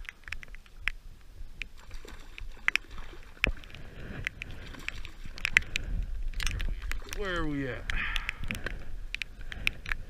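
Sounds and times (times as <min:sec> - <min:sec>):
raindrops tapping on camera case: 0:00.0 - 0:10.0.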